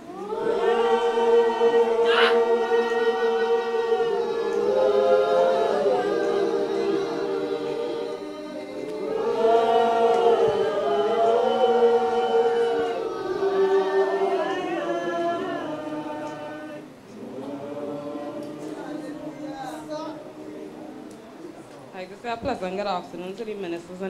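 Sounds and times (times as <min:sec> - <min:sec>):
congregation singing a slow hymn: 0:00.0 - 0:22.0.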